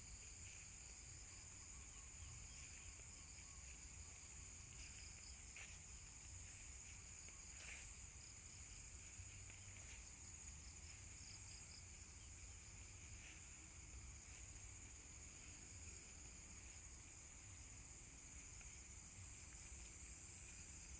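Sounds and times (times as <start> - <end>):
faint insect drone: 0.0 - 20.9
insects chirping: 0.0 - 20.9.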